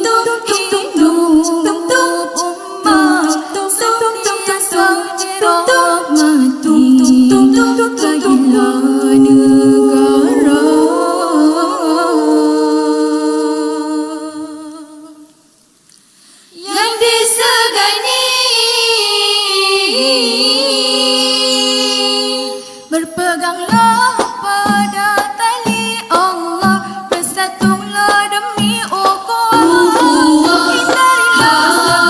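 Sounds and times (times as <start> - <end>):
vocal group singing in harmony: 0.0 - 15.6, 16.3 - 32.0.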